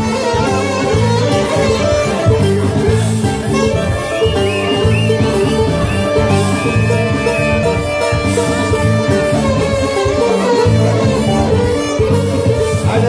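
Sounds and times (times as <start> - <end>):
live band instrumental: 0.0 - 13.0.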